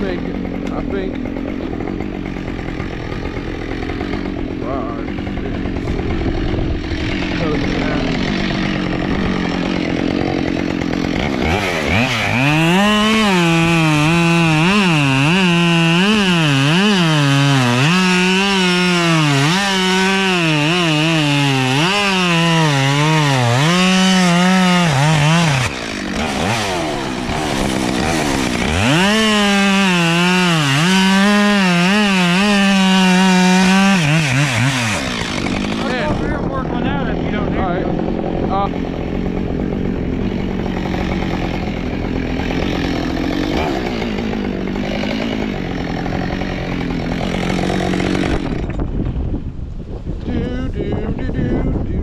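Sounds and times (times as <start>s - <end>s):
chainsaw cutting wood: 0.0s - 49.4s.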